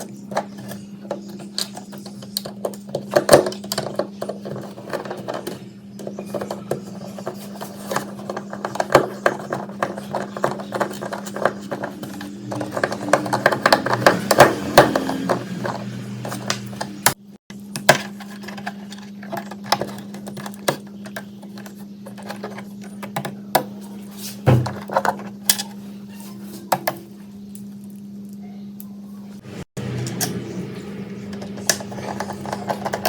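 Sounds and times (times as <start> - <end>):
low electric hum: 0.0 - 33.0.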